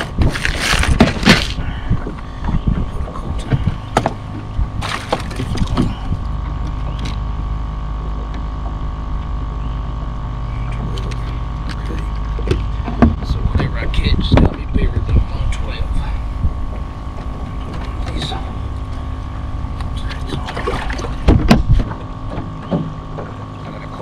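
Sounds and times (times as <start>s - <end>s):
small motor humming with whine: 0.0s - 24.0s.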